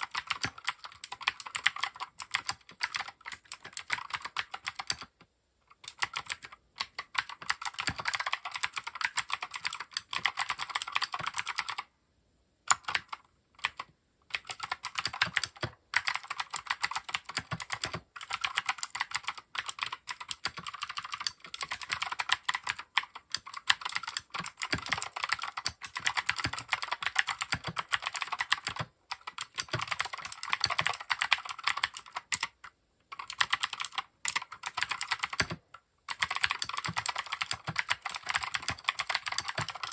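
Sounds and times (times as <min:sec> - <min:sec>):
mechanical keyboard typing: 0:00.0 - 0:11.9, 0:12.7 - 0:39.9.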